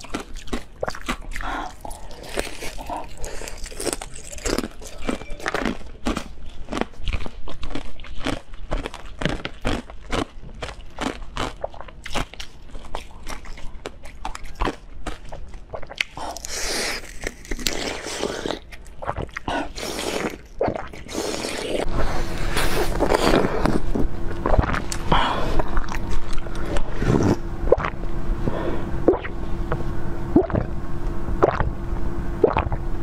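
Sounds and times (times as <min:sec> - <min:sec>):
faint steady hum: 0:00.0 - 0:09.2, 0:09.8 - 0:33.0
ice being chewed: 0:00.0 - 0:28.0.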